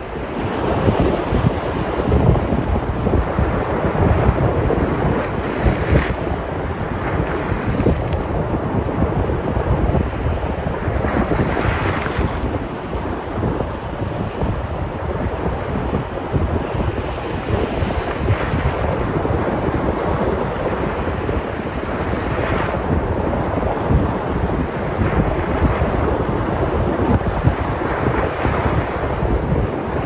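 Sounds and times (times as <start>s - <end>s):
surf breaking ashore: 0.0s - 30.0s
wind buffeting microphone: 0.0s - 30.0s.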